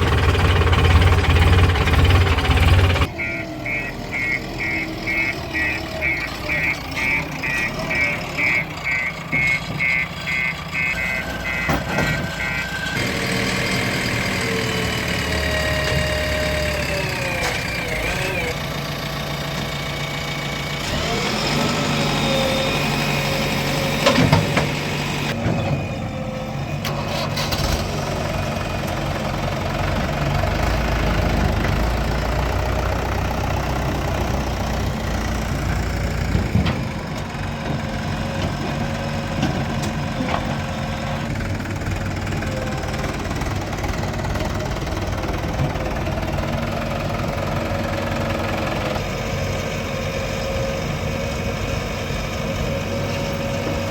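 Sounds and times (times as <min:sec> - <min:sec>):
diesel engines of machines working: 0:00.0 - 0:53.9.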